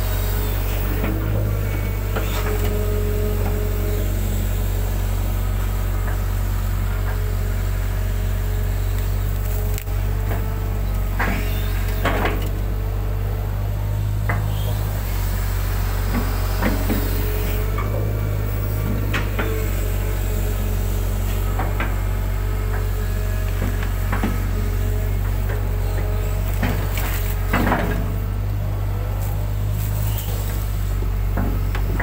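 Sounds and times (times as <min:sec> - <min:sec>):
excavator engine running: 0:00.0 - 0:32.0.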